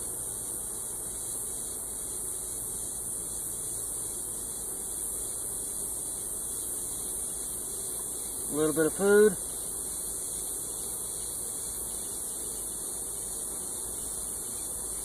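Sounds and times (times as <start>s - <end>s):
honey bees humming: 0.0s - 15.0s
steady high hiss: 0.0s - 15.0s.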